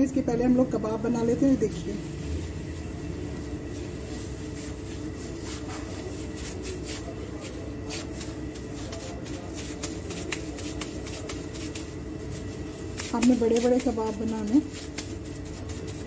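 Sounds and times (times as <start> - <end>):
plastic gloves crinkling: 0.0 - 16.0
steady low hum: 0.0 - 16.0
soft squishes and pats of meat: 1.8 - 16.0.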